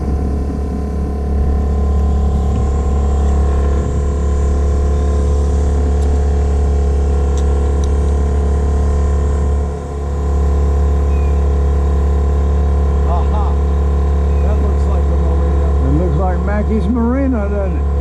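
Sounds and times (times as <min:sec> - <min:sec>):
outboard motor droning: 0:00.0 - 0:18.0.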